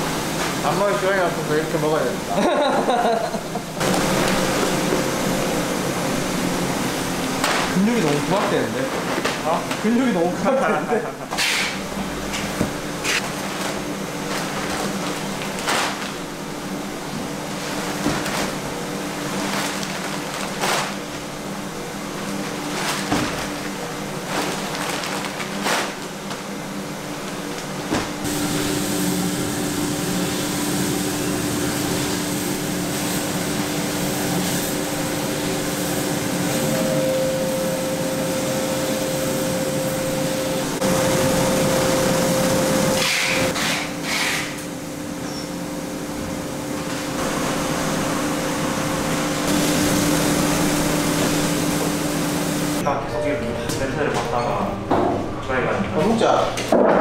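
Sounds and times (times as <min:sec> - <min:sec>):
roaster machinery hum and whir: 0:00.0 - 0:57.0.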